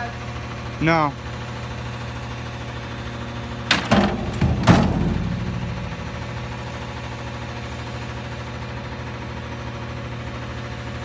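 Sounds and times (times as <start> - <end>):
garbage truck engine idling: 0.0 - 11.0.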